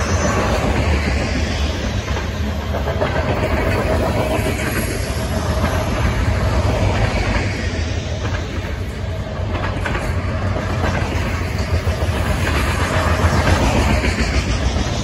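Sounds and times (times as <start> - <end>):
freight train wheels rumbling: 0.0 - 15.0
wheels clicking over rail joints: 2.0 - 7.6, 8.2 - 15.0.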